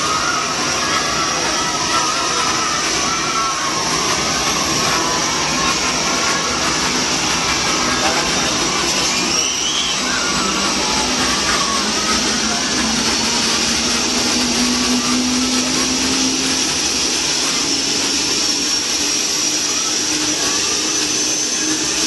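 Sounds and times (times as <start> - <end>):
helicopter engine and rotor: 0.0 - 22.0
high whine: 0.0 - 22.0.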